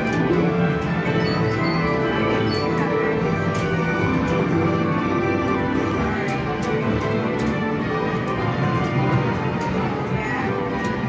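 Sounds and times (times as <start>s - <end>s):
slot machine electronic music: 0.0s - 11.0s.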